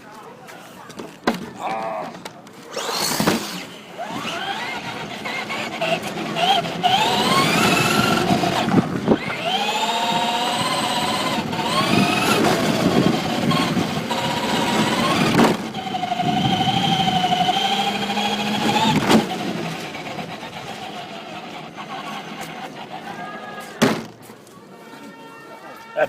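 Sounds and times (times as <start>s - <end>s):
rc truck electric motor whining: 2.7s - 23.6s.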